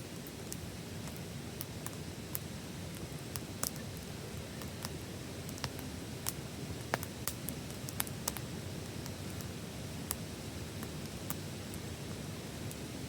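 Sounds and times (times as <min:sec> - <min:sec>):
burning wood crackling and popping: 0:00.0 - 0:13.0
flame rushing: 0:00.0 - 0:13.0.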